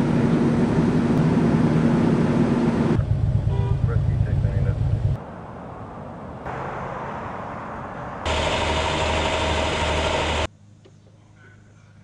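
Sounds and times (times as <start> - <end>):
traffic noise: 0.0 - 11.2
vehicle engine hum: 0.0 - 11.2.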